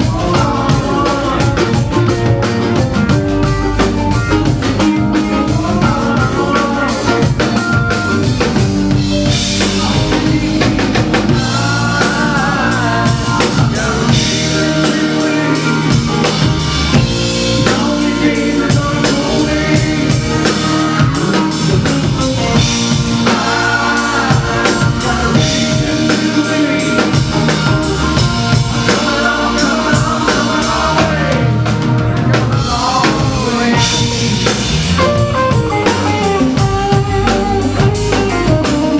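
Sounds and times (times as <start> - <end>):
drum kit beat: 0.0 - 38.9
rock band playing: 0.0 - 38.9.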